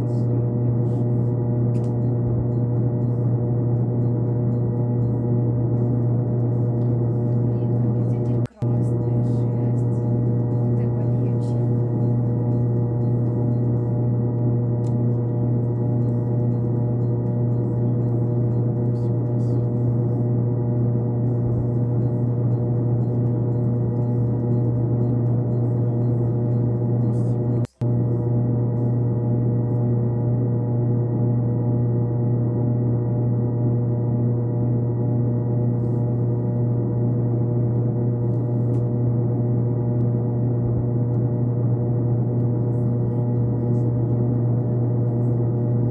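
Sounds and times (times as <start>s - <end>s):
deep hum: 0.0s - 45.9s
drone of held tones: 0.6s - 45.9s.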